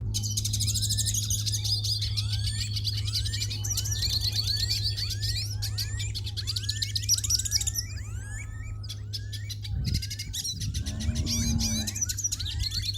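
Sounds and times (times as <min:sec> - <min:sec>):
small birds twittering: 0:00.0 - 0:12.9
steady low hum: 0:00.0 - 0:12.9
short rising bird whistles: 0:00.2 - 0:12.9.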